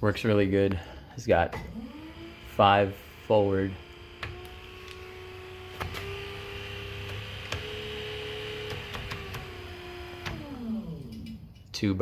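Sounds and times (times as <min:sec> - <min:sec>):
electric motor whining: 0:01.6 - 0:11.4.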